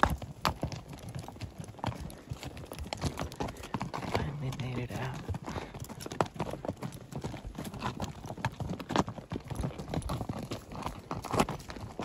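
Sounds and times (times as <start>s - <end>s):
horse hooves clopping on rocky dirt: 0.0s - 12.0s.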